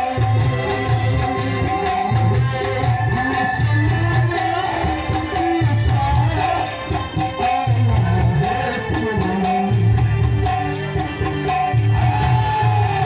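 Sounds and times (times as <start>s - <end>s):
jingling percussion: 0.0s - 13.0s
person singing: 0.0s - 13.0s
rhythmic drum beat: 0.0s - 13.0s.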